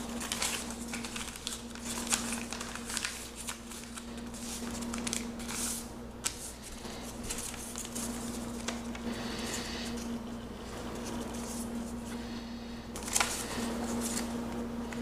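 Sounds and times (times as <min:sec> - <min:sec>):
paper folding and rustling: 0:00.0 - 0:12.2, 0:12.9 - 0:15.0
steady low hum: 0:00.0 - 0:15.0.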